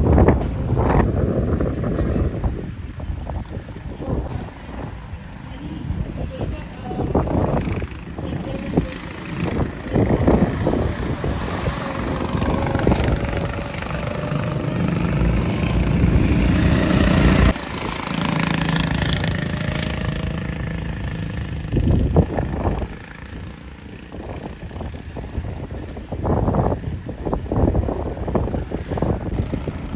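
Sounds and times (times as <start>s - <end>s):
go-kart engines racing: 0.0s - 29.9s
wind buffeting microphone: 0.0s - 29.9s.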